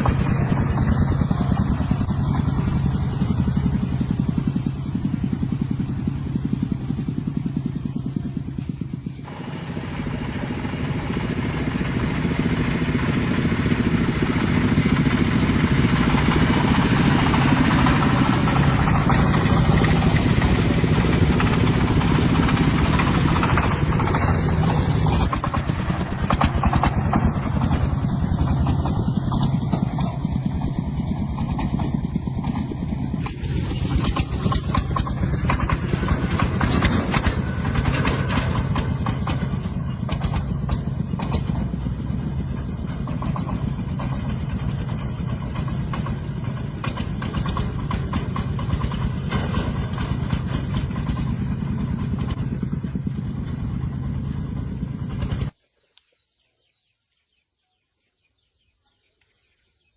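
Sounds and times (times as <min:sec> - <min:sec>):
engine running: 0:00.0 - 0:55.7.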